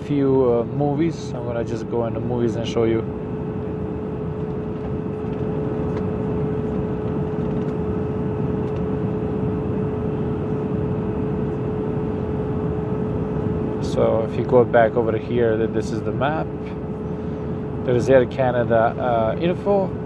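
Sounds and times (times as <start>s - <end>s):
airplane engine and airflow rushing: 0.0s - 20.0s
steady hum tone: 0.0s - 20.0s.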